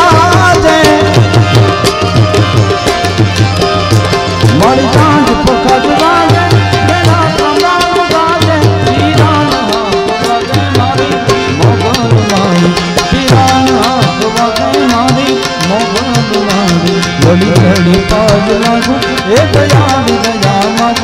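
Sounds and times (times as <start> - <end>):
tabla playing fast beat: 0.0 - 21.0.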